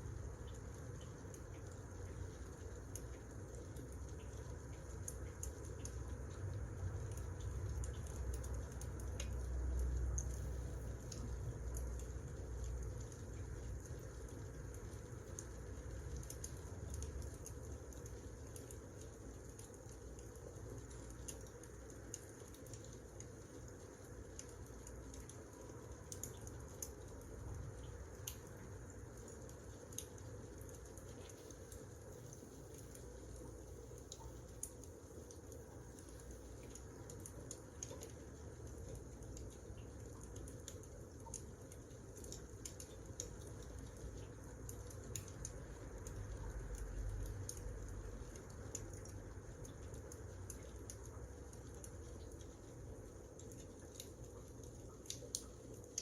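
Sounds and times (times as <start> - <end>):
low rumble of burning logs: 0.0 - 56.0
wood fire crackling: 0.2 - 56.0
fire popping and snapping: 10.1 - 56.0.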